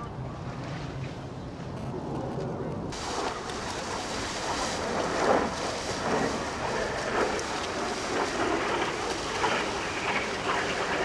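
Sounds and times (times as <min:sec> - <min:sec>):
wind buffeting microphone: 0:00.0 - 0:11.0
jet aircraft engine rushing: 0:01.8 - 0:11.0.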